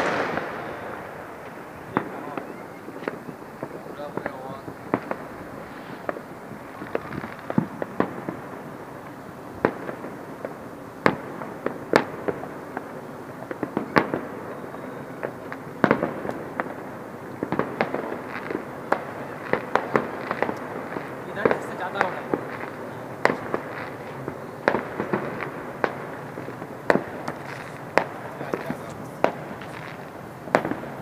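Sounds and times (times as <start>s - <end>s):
distant firework bangs: 0.0s - 31.0s
firework crackle: 0.0s - 31.0s.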